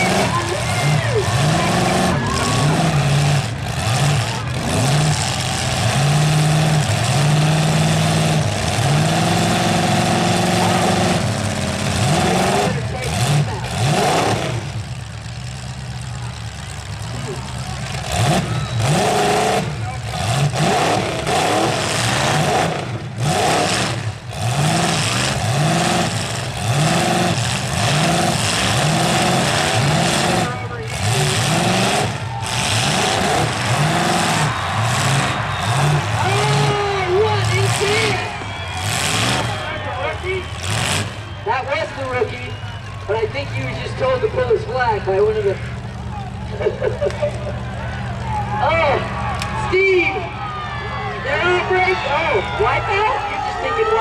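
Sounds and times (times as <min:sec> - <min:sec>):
loud steady noise: 0:00.0 - 0:46.6
car engines revving hard: 0:00.0 - 0:54.0.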